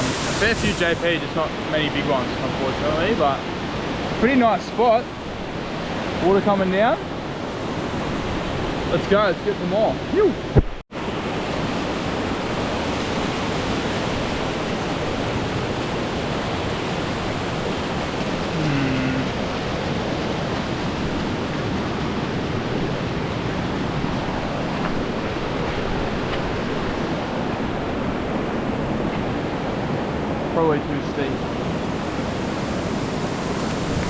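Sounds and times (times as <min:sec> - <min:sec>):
waterfall and creek rushing: 0:00.0 - 0:34.0.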